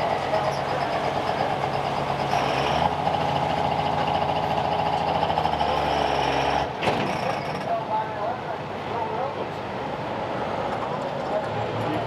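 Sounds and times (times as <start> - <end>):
loud diesel truck engine: 0.0 - 12.0.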